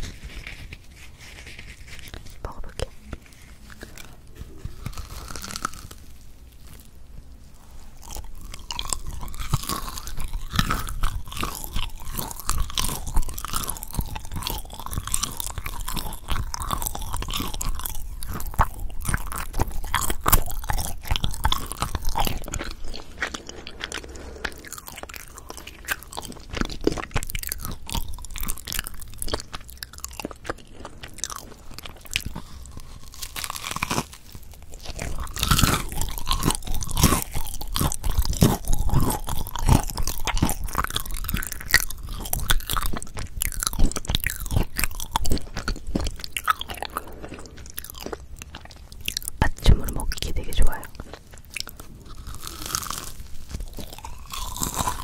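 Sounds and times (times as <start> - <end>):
close chewing with mouth clicks: 0.0 - 55.0.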